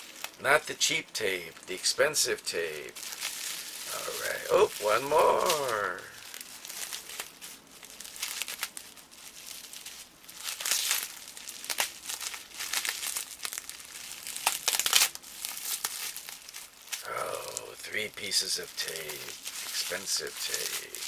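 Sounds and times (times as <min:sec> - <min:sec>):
bubble wrap crinkling: 0:00.0 - 0:21.0
packing tape peeling: 0:03.0 - 0:17.7, 0:18.6 - 0:21.0.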